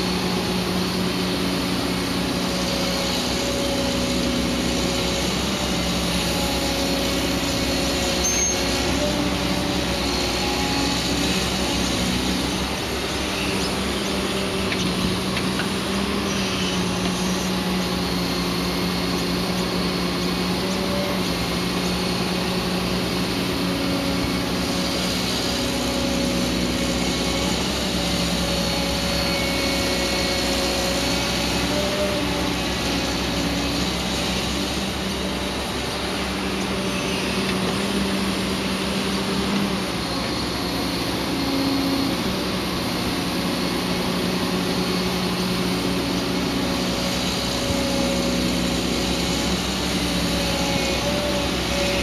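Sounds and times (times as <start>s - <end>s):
excavator engine and hydraulics: 0.0s - 52.0s.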